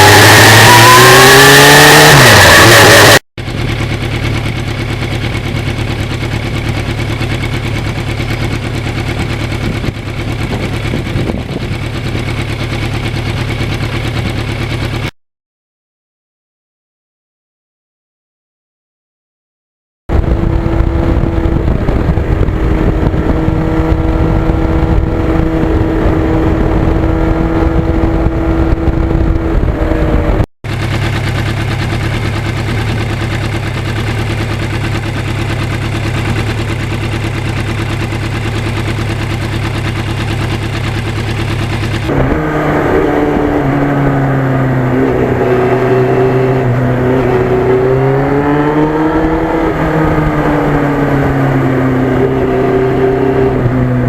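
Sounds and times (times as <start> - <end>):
motorcycle engine running: 0.0 - 15.1, 20.1 - 54.0.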